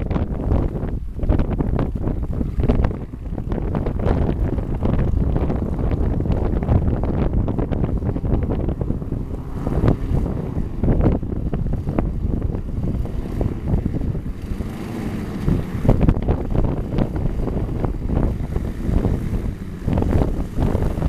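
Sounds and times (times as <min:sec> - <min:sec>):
gusty wind buffeting microphone: 0:00.0 - 0:21.0.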